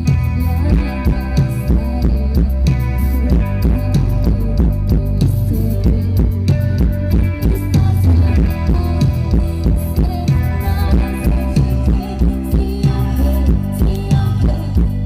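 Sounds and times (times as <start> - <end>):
drum kit steady beat: 0.0 - 15.0
rock band playing: 0.0 - 15.0.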